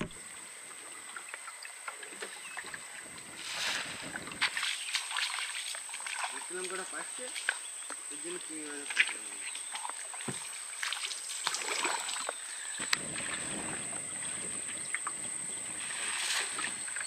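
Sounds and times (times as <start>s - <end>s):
water splashing around boat: 0.0s - 17.0s.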